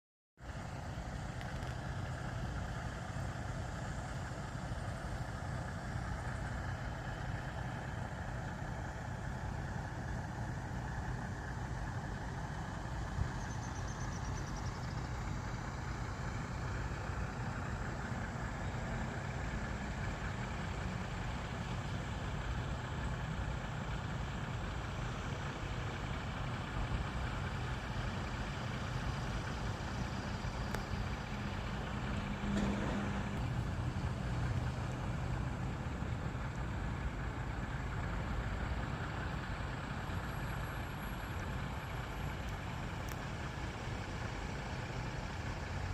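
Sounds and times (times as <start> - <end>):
vehicle road noise: 0.4 - 45.9.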